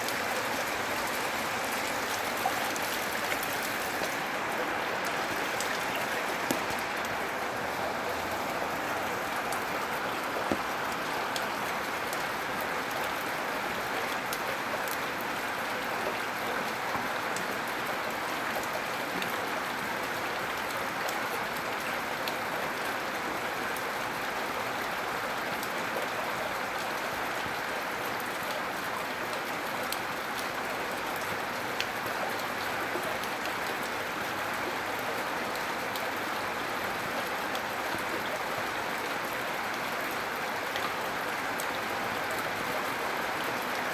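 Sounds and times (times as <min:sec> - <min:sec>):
gentle rain falling: 0:00.0 - 0:43.9.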